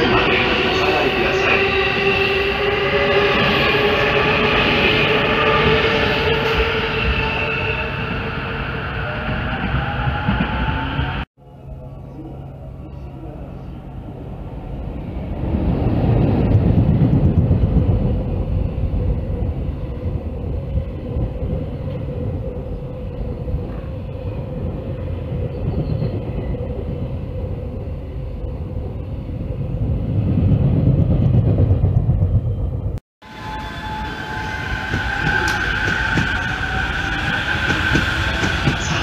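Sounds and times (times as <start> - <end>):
freight train rumbling past: 0.0 - 39.0
train high whine: 0.0 - 39.0.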